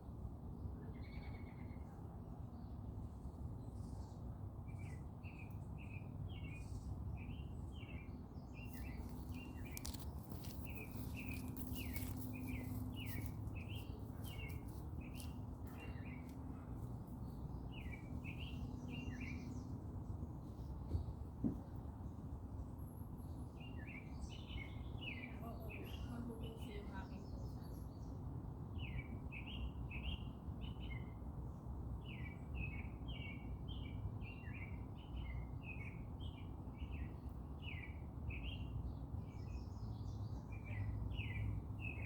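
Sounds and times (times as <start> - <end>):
songbird chirping: 3.6 - 31.2, 32.0 - 42.0.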